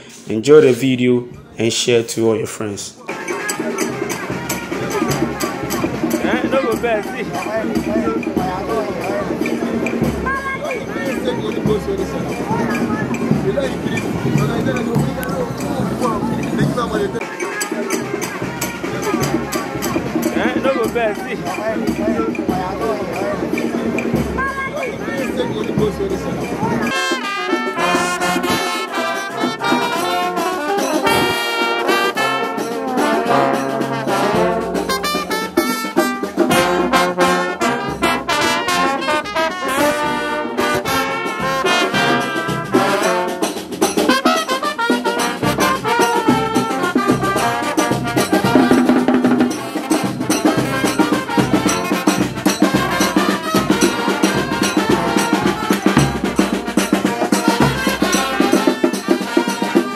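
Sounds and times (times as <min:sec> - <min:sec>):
percussion beat: 0:03.0 - 0:59.9
horns playing melody: 0:03.1 - 0:10.5, 0:12.2 - 0:22.6, 0:26.8 - 0:59.9.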